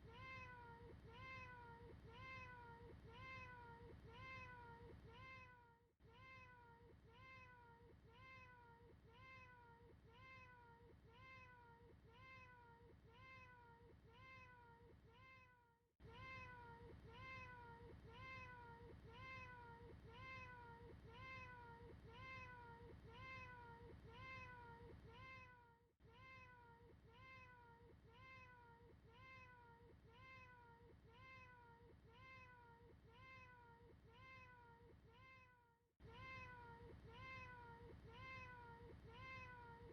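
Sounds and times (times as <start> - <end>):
faint cat meow: 0.0 - 39.9.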